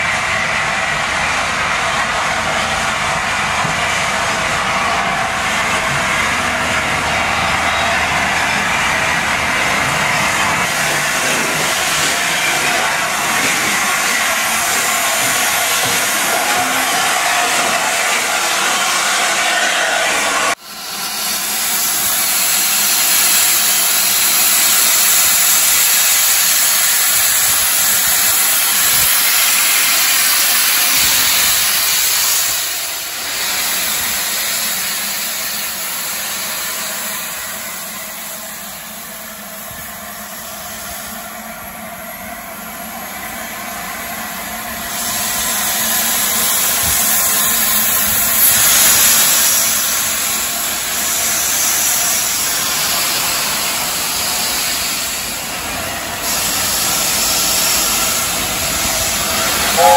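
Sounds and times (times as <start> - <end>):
steam hissing from locomotive: 0.0 - 59.9.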